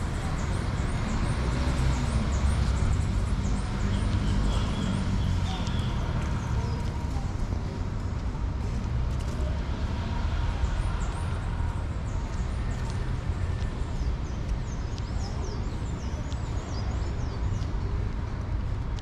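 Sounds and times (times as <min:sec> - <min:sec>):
small birds chirping: 0:00.0 - 0:08.4, 0:10.6 - 0:18.7
low outdoor rumble: 0:00.0 - 0:19.0.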